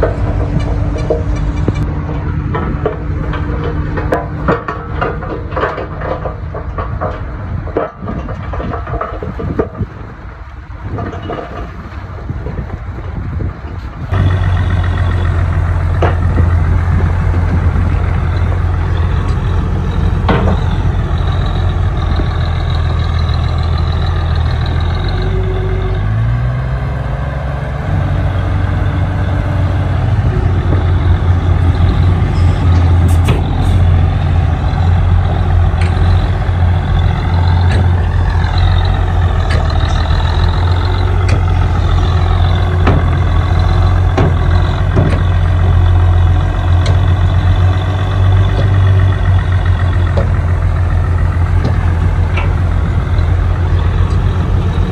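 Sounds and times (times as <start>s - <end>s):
diesel engine running loud: 0.0s - 54.9s.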